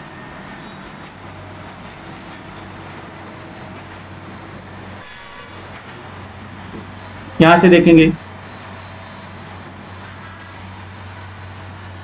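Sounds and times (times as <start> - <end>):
train engine and machinery droning: 0.0 - 12.0.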